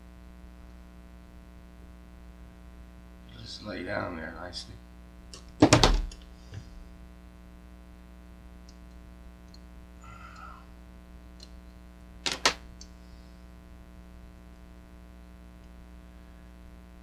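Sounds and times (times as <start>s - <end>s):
mains hum: 0.0s - 17.0s.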